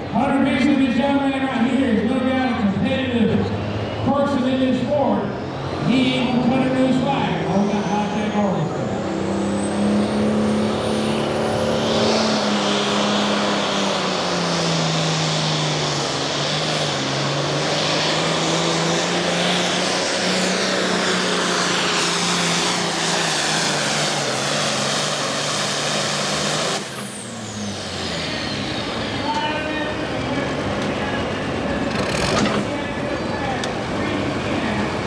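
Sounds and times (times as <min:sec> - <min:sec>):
diesel engine running hard: 0:00.0 - 0:35.0.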